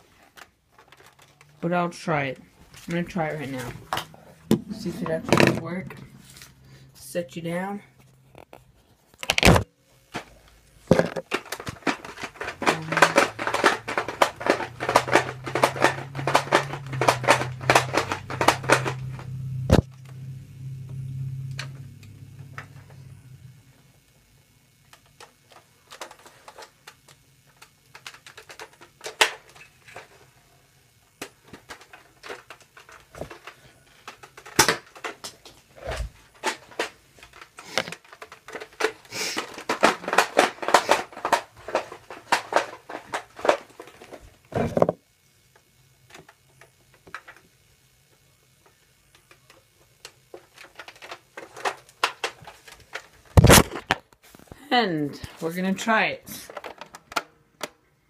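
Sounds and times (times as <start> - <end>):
plastic toy blaster clicks and rattles: 0.2 - 4.1, 9.2 - 20.2, 21.2 - 54.0, 55.5 - 57.8.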